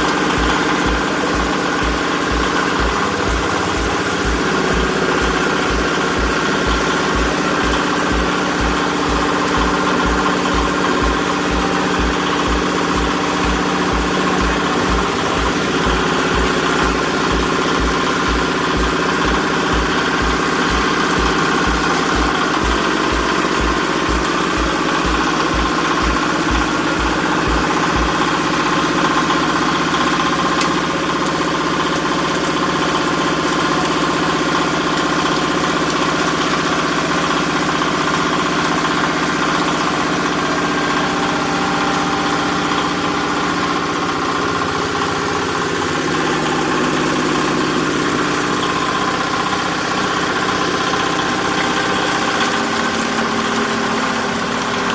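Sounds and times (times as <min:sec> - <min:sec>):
steady machine whine: 0:00.0 - 0:54.9.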